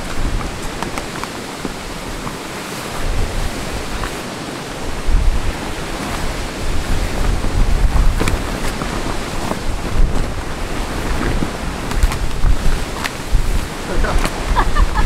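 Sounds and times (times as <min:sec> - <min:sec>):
gusty wind buffeting microphone: 0:00.0 - 0:15.0
tarp flapping and snapping: 0:00.0 - 0:15.0.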